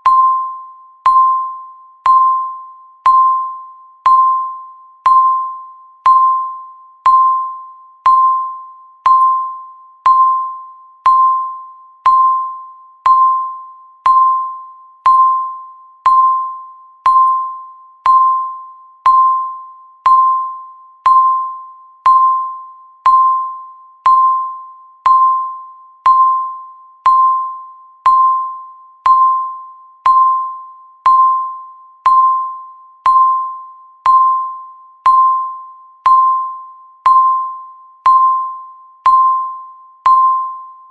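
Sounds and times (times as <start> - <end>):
countdown timer beep: 0.0 - 40.9.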